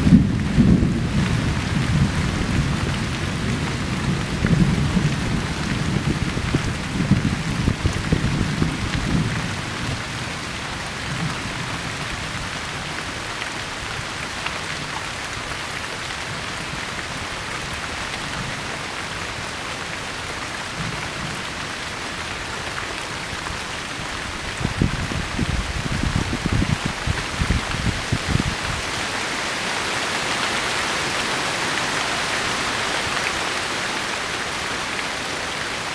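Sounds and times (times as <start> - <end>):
rain falling on leaves: 0.0 - 35.9.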